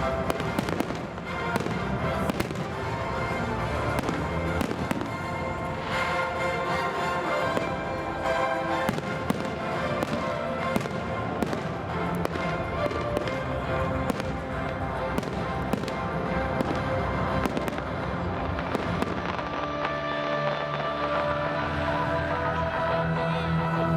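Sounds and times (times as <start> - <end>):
fireworks bangs and crackles: 0.0 - 22.0
music over loudspeakers: 0.0 - 23.9.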